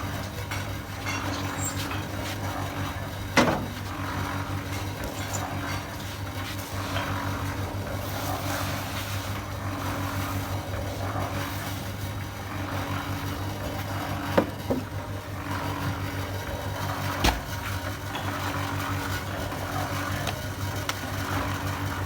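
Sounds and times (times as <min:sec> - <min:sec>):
concrete mixer humming: 0:00.0 - 0:22.0.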